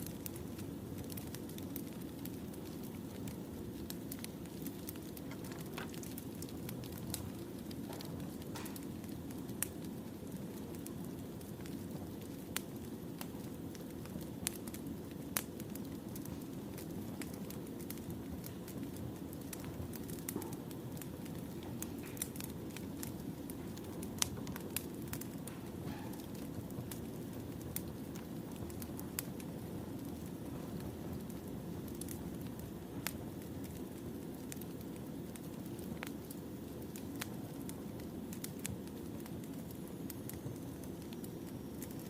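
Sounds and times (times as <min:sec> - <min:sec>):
firewood crackles and pops: 0:00.0 - 0:42.0
low rumble of flames: 0:00.0 - 0:42.0.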